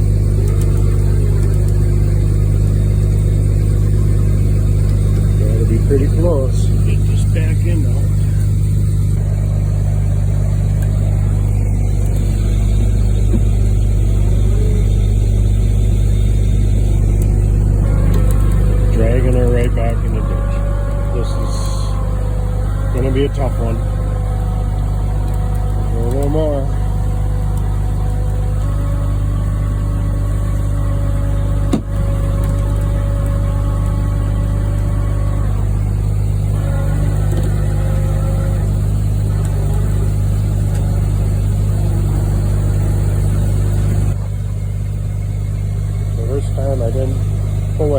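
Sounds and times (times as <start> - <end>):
truck engine droning: 0.0 - 47.9.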